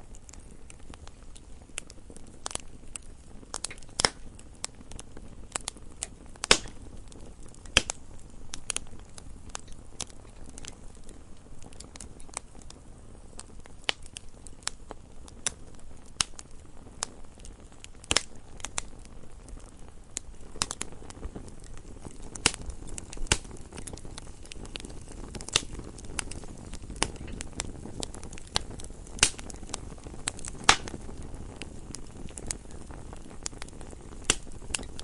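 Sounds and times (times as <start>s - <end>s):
campfire burning: 0.0s - 35.0s
wood crackling and popping: 0.0s - 35.0s.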